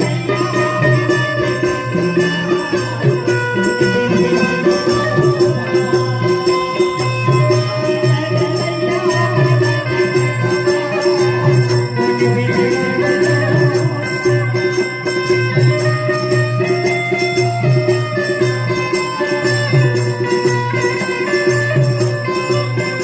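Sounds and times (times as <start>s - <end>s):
devotional folk music: 0.0s - 23.0s
jingling percussion: 0.0s - 23.0s.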